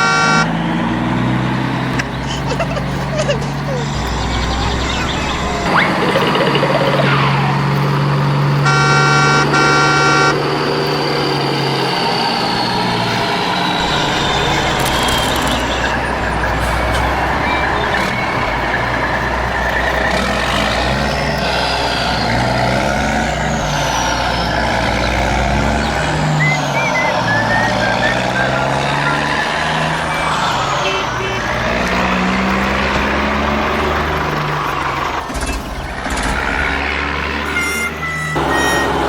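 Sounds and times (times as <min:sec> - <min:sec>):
truck horn: 0:00.0 - 0:35.4, 0:36.1 - 0:39.0
truck engine running: 0:00.0 - 0:39.0.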